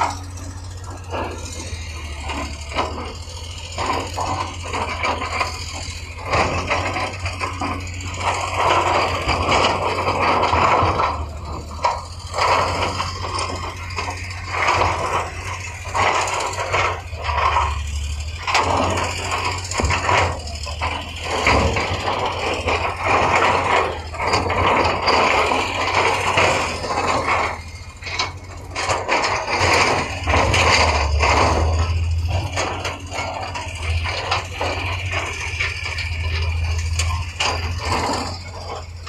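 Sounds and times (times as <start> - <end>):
diesel engine running: 0.0 - 39.0
metal clanks and knocks: 0.0 - 39.0.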